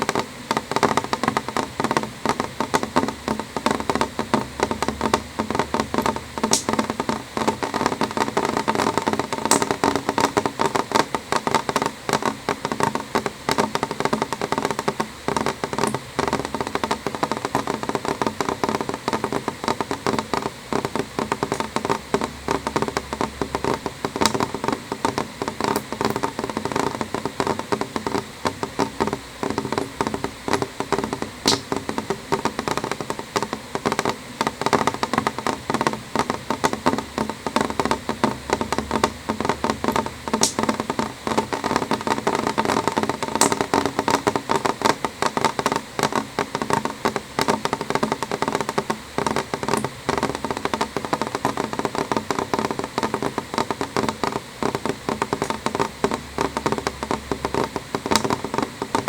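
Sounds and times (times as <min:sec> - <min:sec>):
rain pattering on window: 0:00.0 - 0:59.0.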